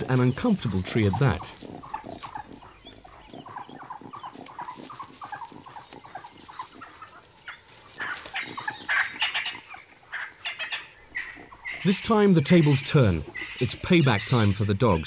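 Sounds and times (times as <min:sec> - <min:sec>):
wild dogs twittering and yelping: 0:00.0 - 0:15.0.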